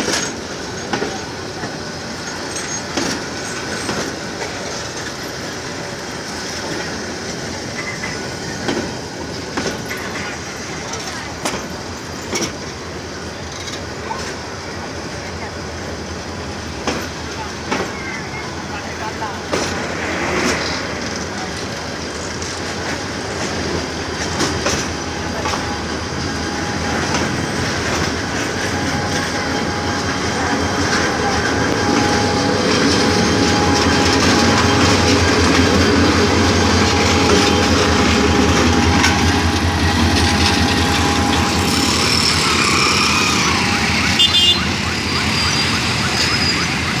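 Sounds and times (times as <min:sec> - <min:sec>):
diesel locomotive engine: 0:00.0 - 0:47.0
train coaches rumbling on rails: 0:00.0 - 0:47.0.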